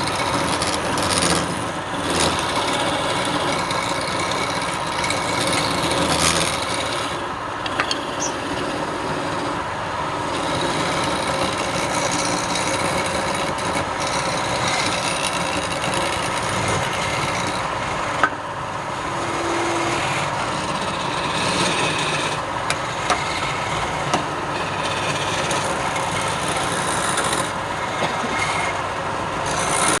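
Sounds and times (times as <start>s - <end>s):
tool rasping against spinning wood: 0.0s - 18.3s, 19.0s - 30.0s
wood lathe running: 0.0s - 30.0s.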